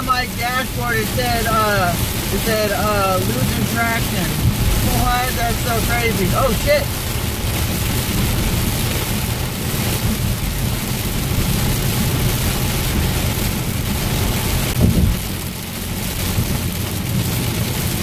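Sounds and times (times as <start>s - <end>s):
heavy rain on a car: 0.0s - 18.0s
road and engine rumble: 0.0s - 18.0s.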